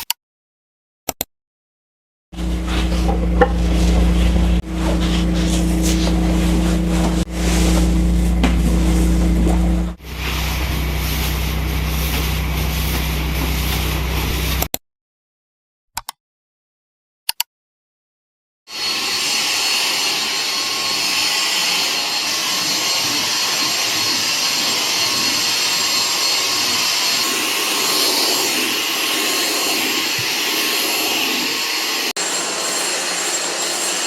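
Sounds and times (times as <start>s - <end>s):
vacuum cleaner running: 2.4s - 14.7s, 18.7s - 34.0s.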